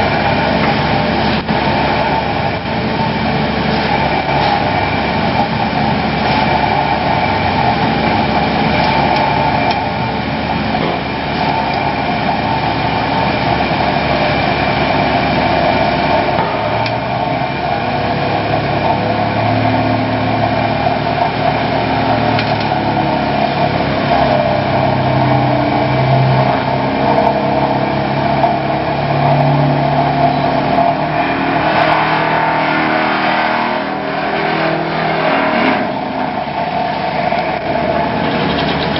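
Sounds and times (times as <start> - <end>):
excavator diesel engine under load: 0.0 - 38.9
vibratory pile hammer buzzing: 0.0 - 38.9.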